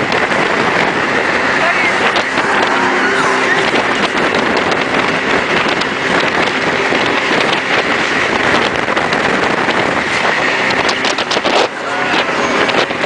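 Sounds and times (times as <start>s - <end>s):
boat engine: 0.0s - 13.0s
wind buffeting microphone: 0.0s - 13.0s.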